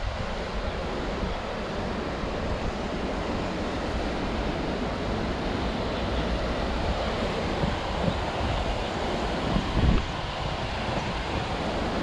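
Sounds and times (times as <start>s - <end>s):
river water pouring over weir: 0.0s - 12.0s
wind buffeting microphone: 0.0s - 12.0s.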